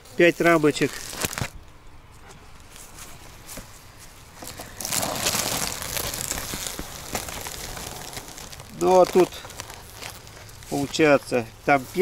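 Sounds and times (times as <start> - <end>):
beehive frames rustling: 0.0 - 12.0.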